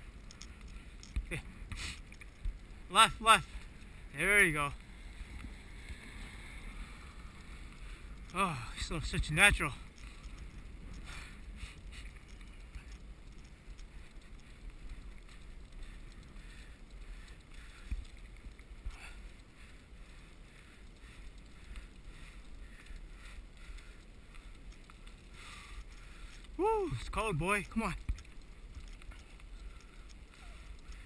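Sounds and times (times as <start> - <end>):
bicycle tyres rumbling on asphalt: 0.0 - 31.0.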